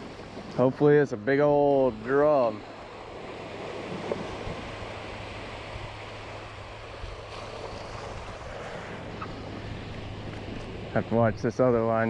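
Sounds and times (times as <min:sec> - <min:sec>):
small waves breaking on sand: 0:00.0 - 0:12.0
wind buffeting microphone: 0:01.6 - 0:12.0.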